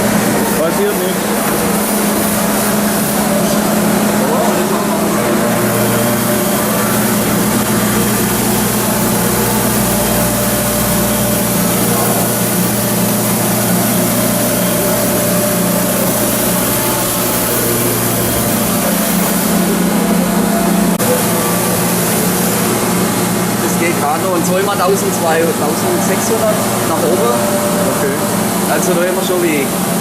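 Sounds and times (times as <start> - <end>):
milling machine axis drive hum: 0.0 - 30.0
milling machine running noise: 0.0 - 30.0.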